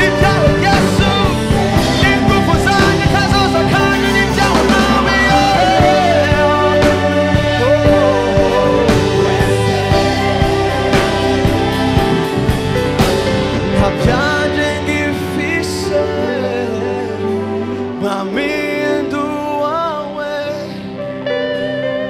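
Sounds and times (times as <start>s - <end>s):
drums: 0.0s - 17.8s
held chords with gliding melody: 0.0s - 22.0s
worship band playing: 0.0s - 22.0s.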